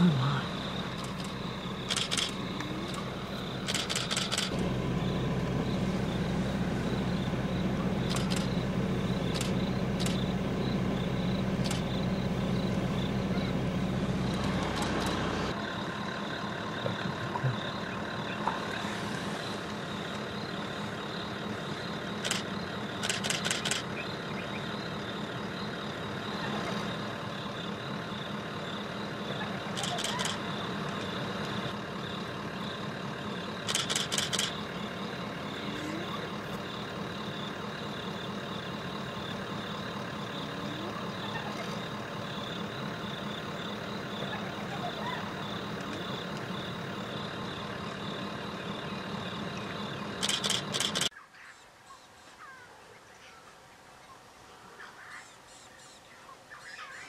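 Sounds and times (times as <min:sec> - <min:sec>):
vehicle engine idling: 0:00.0 - 0:51.1
high insect chorus: 0:00.0 - 0:53.4.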